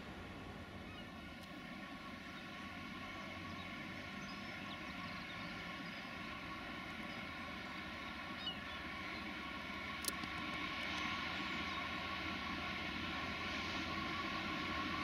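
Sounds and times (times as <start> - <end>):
diesel locomotive engine drone: 0.0 - 15.0.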